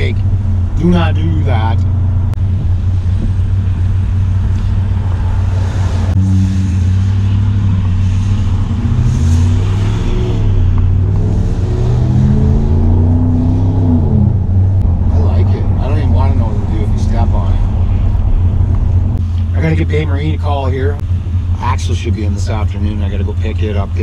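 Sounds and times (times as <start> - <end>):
truck engine accelerating: 0.0 - 24.0.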